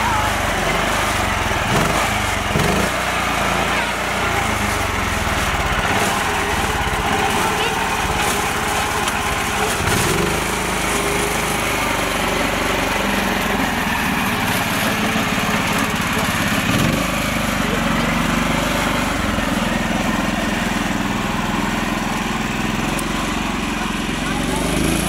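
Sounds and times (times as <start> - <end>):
small tractor engine running: 0.0 - 25.0.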